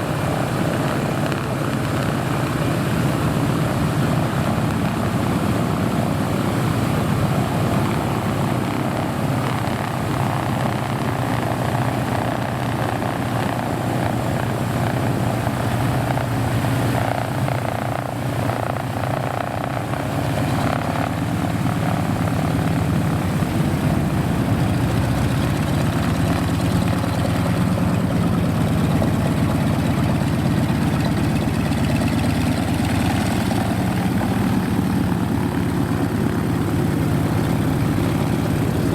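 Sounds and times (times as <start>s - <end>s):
propeller aircraft engine drone: 0.0s - 38.9s.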